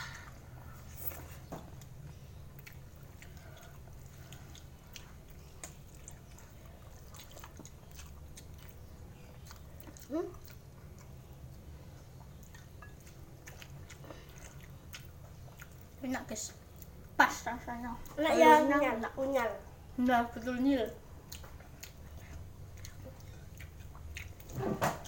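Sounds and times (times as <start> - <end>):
person chewing food: 0.0 - 17.1, 21.1 - 25.0
steady low hum: 0.0 - 25.0.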